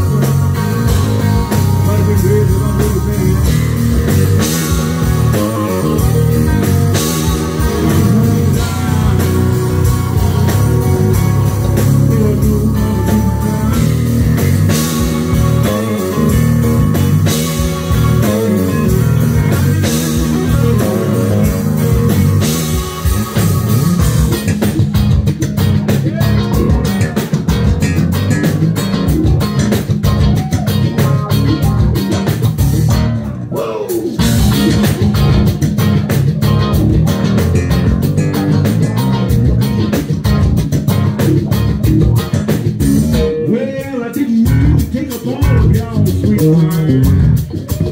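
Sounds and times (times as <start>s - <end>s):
blues-rock band playing: 0.0s - 47.9s.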